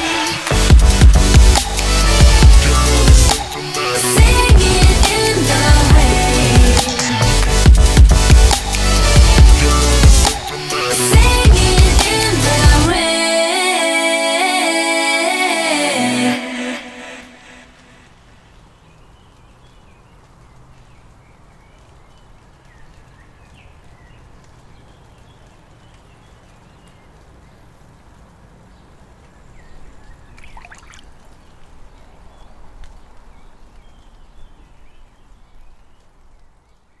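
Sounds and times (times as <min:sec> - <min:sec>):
steady hiss: 0:00.0 - 0:29.8.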